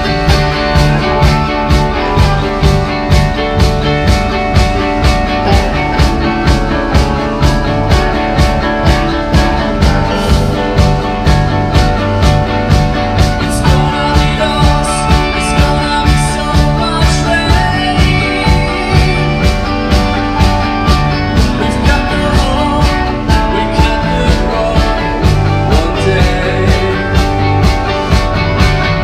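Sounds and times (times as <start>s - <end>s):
bass guitar: 0.0s - 29.0s
drums steady beat: 0.0s - 29.0s
electric guitars: 0.0s - 29.0s.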